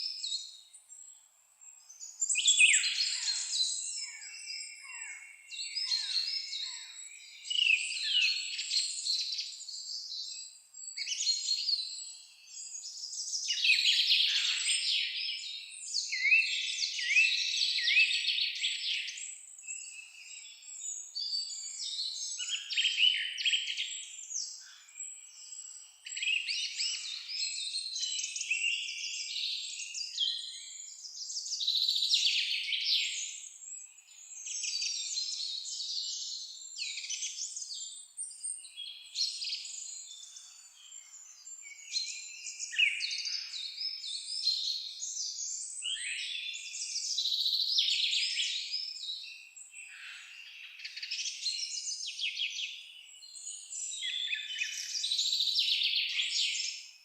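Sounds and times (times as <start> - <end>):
songbirds chorus: 0.0 - 57.0.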